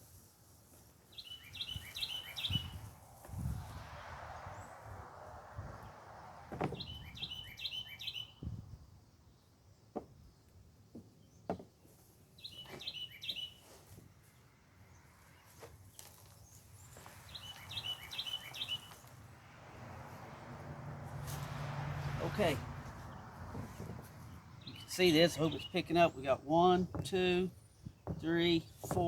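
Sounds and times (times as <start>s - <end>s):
songbird chirping: 0.7s - 29.0s.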